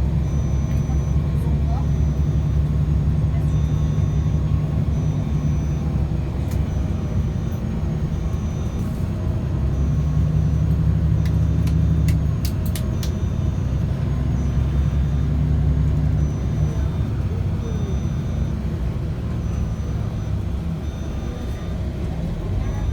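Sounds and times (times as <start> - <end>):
vehicle engine and tyres rumbling: 0.0 - 22.9.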